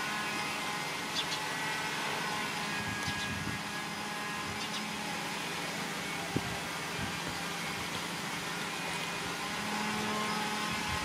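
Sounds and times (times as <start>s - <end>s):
machine hum and hiss: 0.0s - 11.0s.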